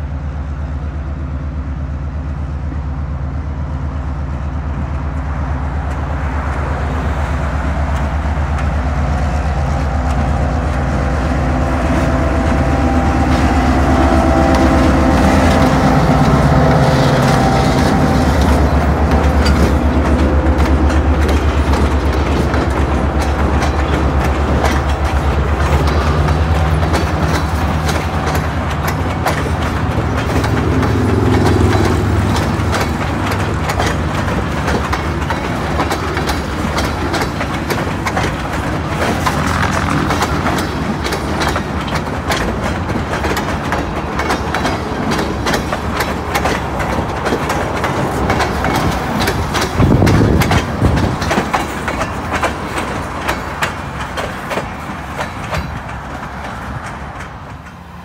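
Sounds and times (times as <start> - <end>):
low train rumble: 0.0 - 58.0
train wheels clicking over rail joints: 2.3 - 58.0.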